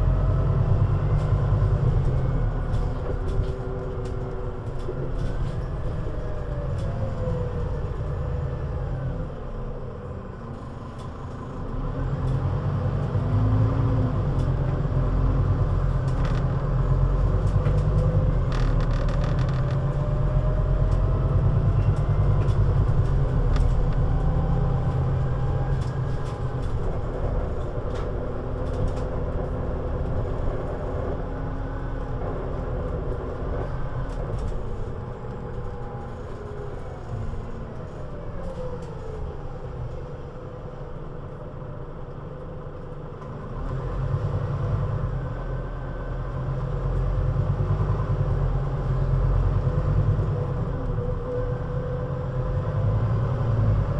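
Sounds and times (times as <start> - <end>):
bus engine accelerating: 0.0 - 53.9.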